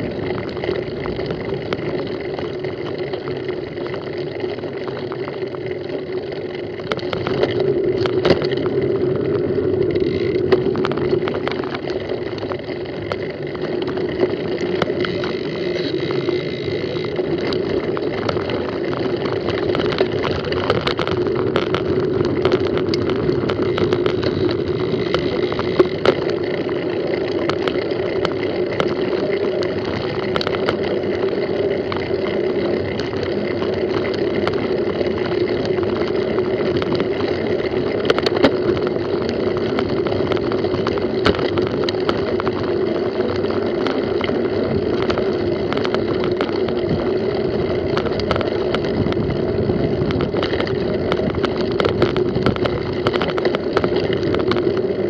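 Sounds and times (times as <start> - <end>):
bike clicking and rattling: 0.0 - 55.0
bike tyres rolling on dirt: 0.0 - 55.0.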